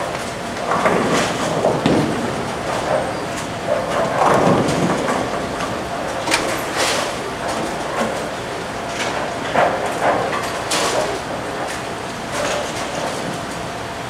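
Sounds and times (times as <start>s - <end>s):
bowling balls rumbling: 0.0s - 13.6s.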